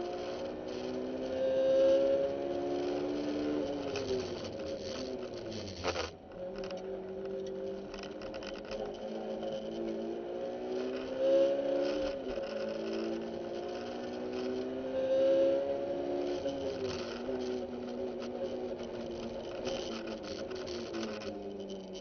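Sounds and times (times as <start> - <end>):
car engine accelerating hard: 0.0 - 6.1, 6.8 - 22.0.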